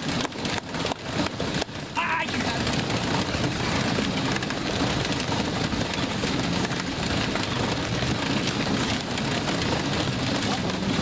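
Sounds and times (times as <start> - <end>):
treadmill mechanical noise: 0.0 - 11.0.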